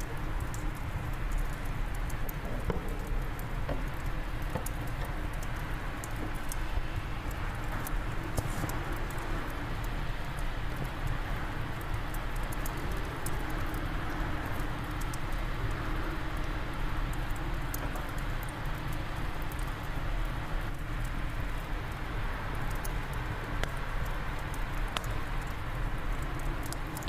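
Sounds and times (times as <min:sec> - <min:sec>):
rush of wind: 0:00.0 - 0:27.0
wood fire crackling: 0:00.0 - 0:27.0.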